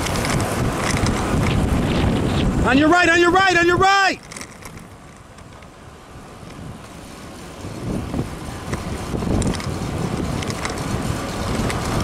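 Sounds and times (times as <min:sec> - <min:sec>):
tyre and road noise: 0:00.0 - 0:12.0
wind buffeting microphone: 0:00.0 - 0:12.0.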